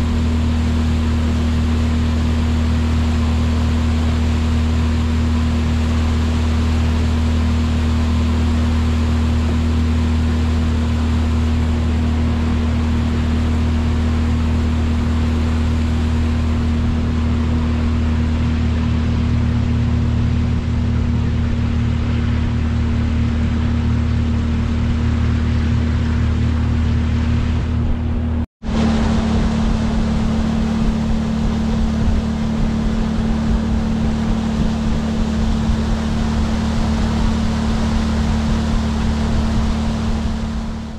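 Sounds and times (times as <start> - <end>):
outboard motor droning: 0.0 - 40.9
rushing water and air: 0.0 - 40.9.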